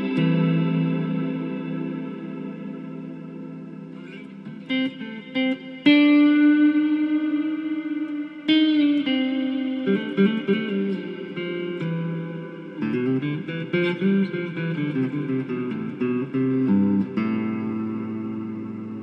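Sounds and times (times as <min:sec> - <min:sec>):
clean electric guitar with reverb: 0:00.0 - 0:19.0.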